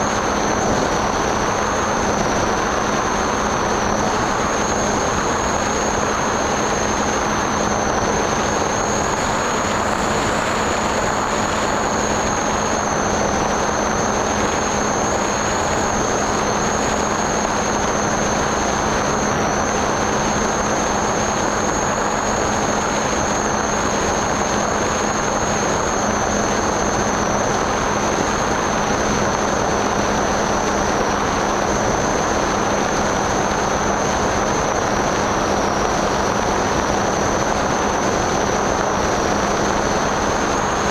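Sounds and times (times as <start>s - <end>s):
electric motor and propeller whine: 0.0s - 40.9s
wind rush over airframe: 0.0s - 40.9s.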